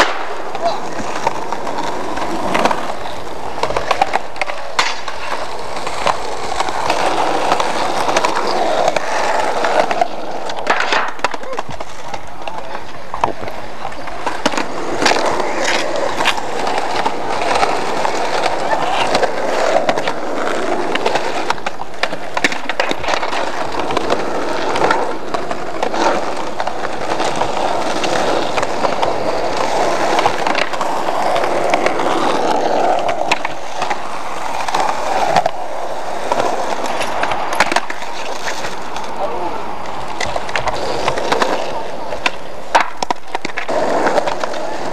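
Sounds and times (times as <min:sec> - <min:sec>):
skateboard wheels rolling on concrete: 0:00.0 - 0:44.9
skateboards clacking on ground: 0:00.0 - 0:44.9.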